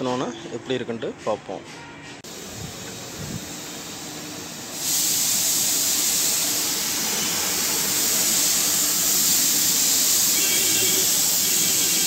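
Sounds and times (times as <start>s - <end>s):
paint spray gun hissing: 2.3s - 12.0s.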